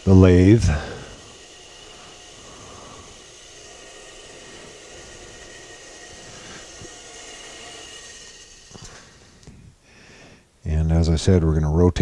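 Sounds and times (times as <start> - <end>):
lathe running: 0.0 - 10.6.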